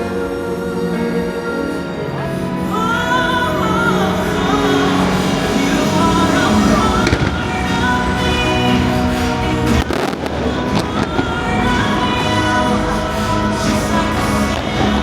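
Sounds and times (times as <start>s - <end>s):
music over loudspeakers: 0.0s - 15.0s.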